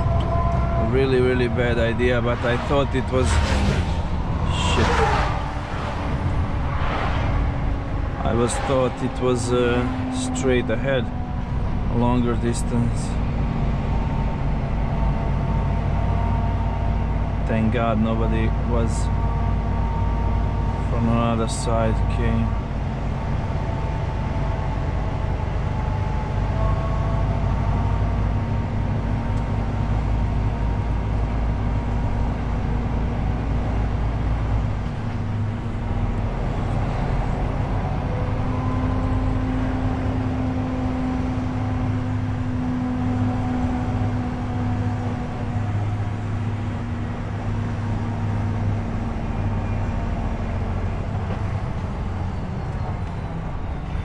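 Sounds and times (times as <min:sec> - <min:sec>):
road noise: 0:00.0 - 0:54.0
truck diesel engine running: 0:00.0 - 0:54.0.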